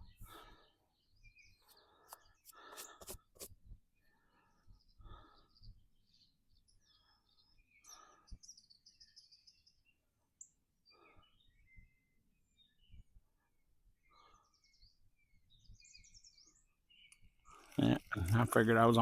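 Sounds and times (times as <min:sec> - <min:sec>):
faint bird calls and chirps: 0:00.0 - 0:19.0.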